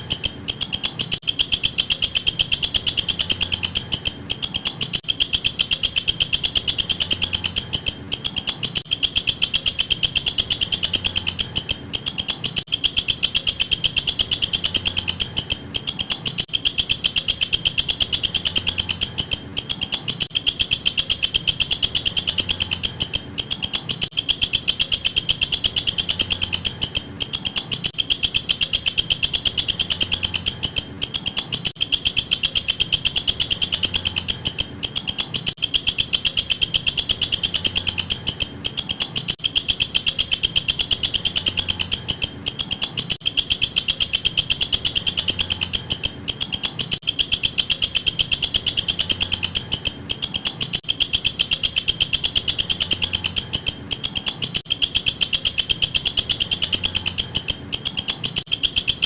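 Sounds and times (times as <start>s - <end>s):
katydid ticking chirps: 0.0s - 59.0s.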